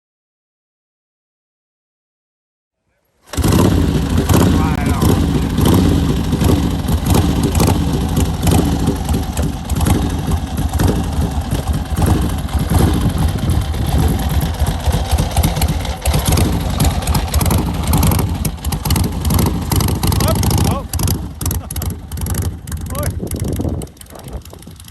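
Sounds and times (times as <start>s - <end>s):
loud vehicle engine running: 3.3s - 24.9s.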